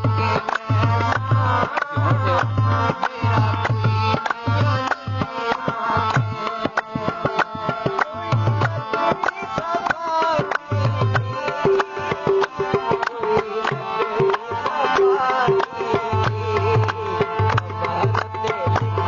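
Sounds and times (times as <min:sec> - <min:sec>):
hand drum beat: 0:00.0 - 0:19.0.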